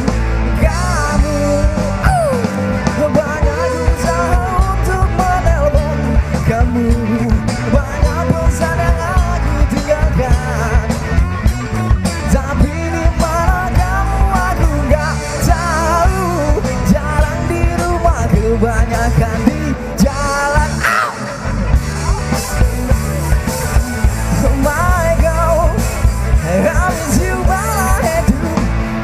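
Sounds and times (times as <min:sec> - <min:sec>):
person singing: 0:00.0 - 0:11.3, 0:12.2 - 0:21.4, 0:24.3 - 0:29.0
live rock band playing: 0:00.0 - 0:29.0
drum beat: 0:00.7 - 0:20.9, 0:21.7 - 0:29.0.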